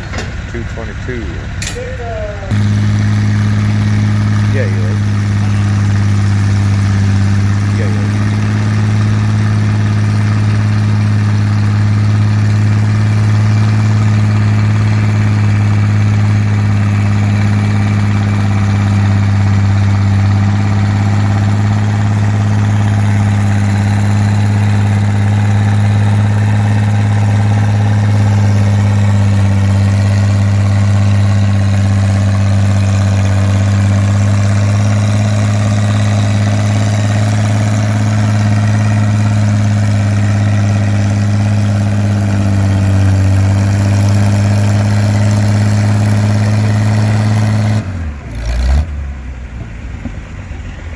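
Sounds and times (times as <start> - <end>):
tractor engine idling: 0.0 - 48.3.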